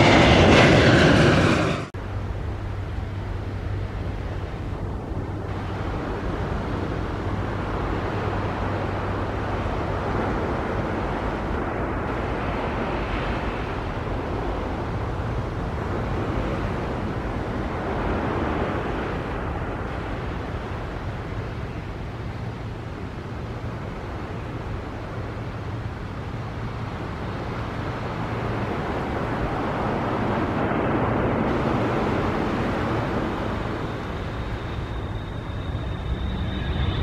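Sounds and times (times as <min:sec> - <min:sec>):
jet engines at takeoff: 0:00.0 - 0:37.0.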